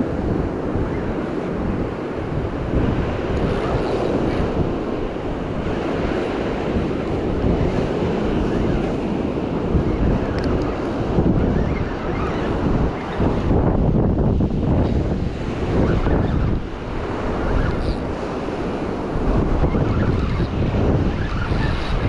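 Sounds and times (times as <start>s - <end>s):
ocean surf breaking on beach: 0.0s - 22.0s
wind buffeting microphone: 0.0s - 22.0s.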